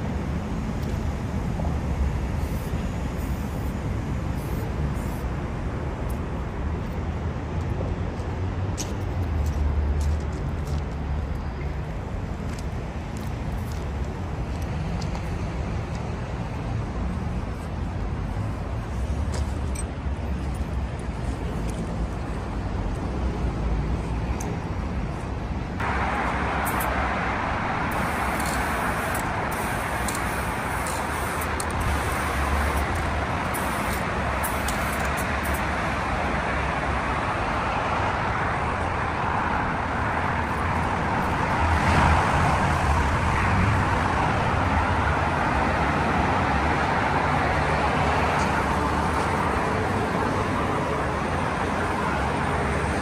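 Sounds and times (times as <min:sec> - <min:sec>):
road traffic passing: 0:00.0 - 0:53.0.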